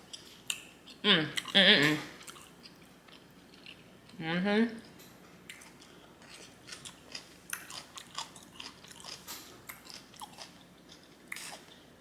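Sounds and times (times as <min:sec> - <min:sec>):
person chewing food: 0:00.0 - 0:04.2, 0:05.4 - 0:12.0.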